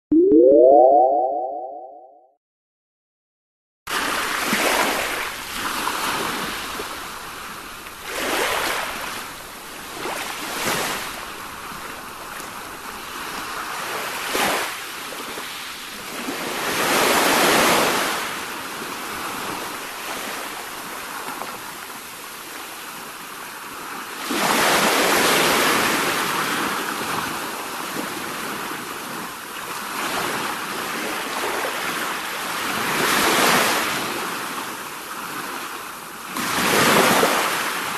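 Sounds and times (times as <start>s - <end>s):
sea waves breaking on shore: 3.9s - 37.9s.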